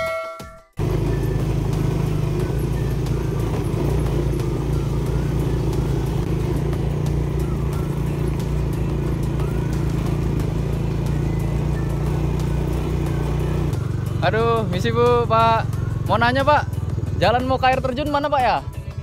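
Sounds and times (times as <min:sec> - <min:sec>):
motorcycle engine rumble: 0:00.4 - 0:19.0.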